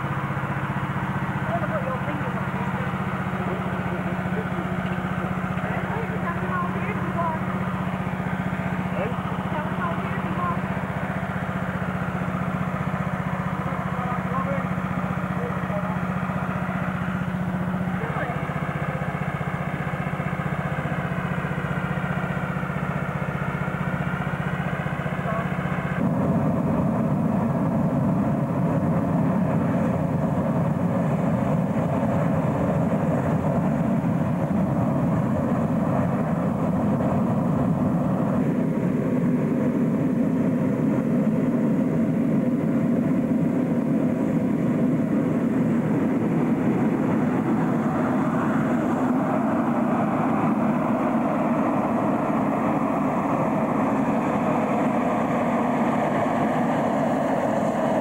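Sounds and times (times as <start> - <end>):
inflator fan engine running: 0.0 - 58.0.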